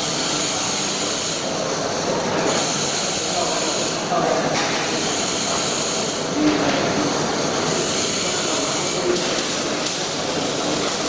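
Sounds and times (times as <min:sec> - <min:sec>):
welding arc crackling and hissing: 0:00.0 - 0:11.0.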